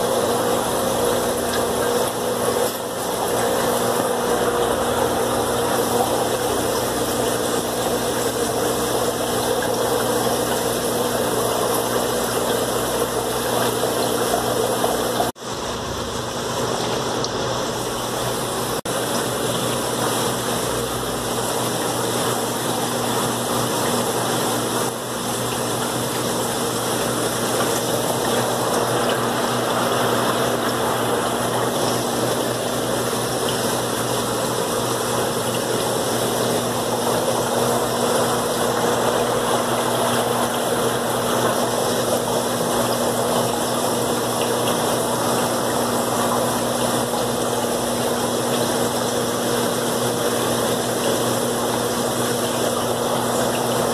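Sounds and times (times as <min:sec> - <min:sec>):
aquarium pumps humming: 0:00.0 - 0:53.9
rushing water and air: 0:00.0 - 0:53.9.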